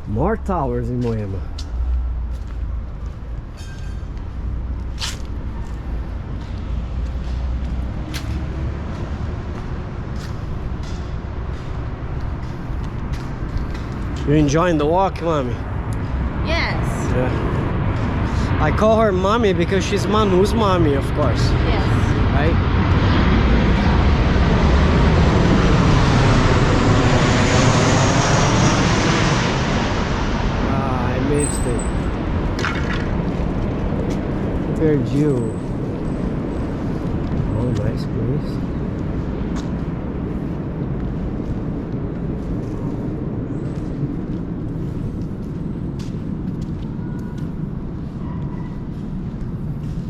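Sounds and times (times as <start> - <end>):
street traffic engine rumble: 0.0 - 50.0.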